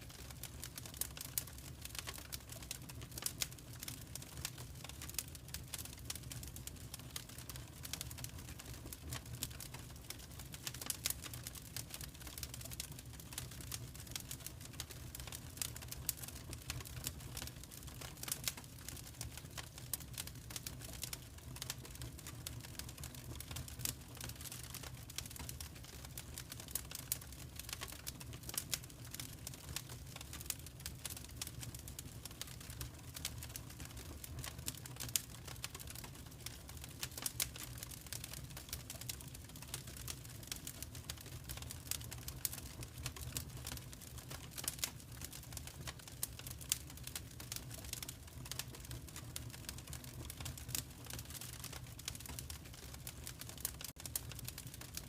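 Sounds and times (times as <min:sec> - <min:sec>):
fire crackling and popping: 0:00.0 - 0:55.0
low fire rumble: 0:00.1 - 0:55.0.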